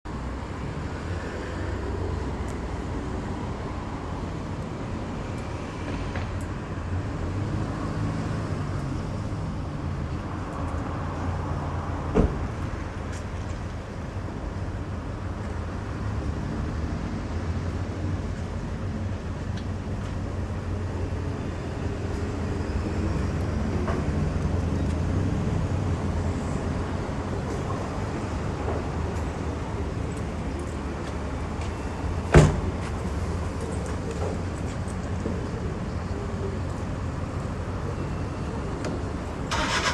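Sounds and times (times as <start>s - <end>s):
road traffic rumble: 0.1s - 39.9s.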